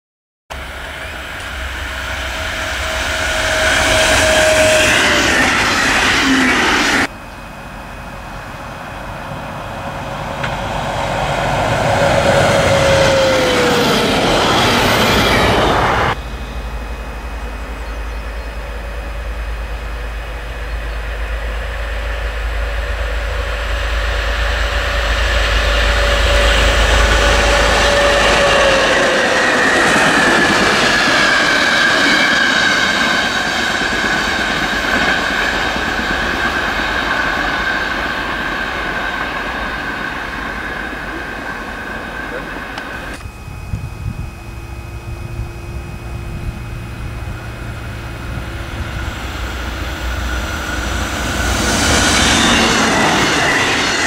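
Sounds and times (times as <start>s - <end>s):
diesel locomotive engine rumble: 0.5s - 54.0s
trains passing: 0.5s - 54.0s.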